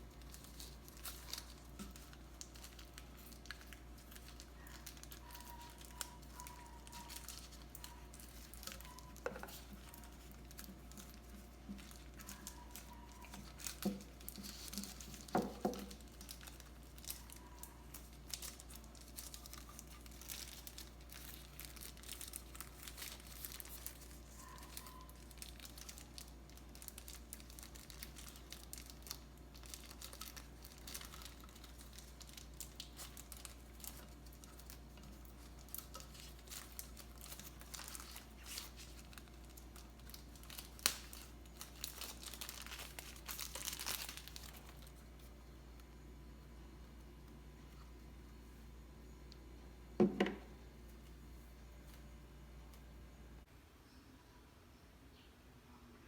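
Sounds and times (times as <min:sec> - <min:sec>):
plastic and paper crinkling: 0:00.0 - 0:46.0
faint steady hum: 0:00.0 - 0:56.0.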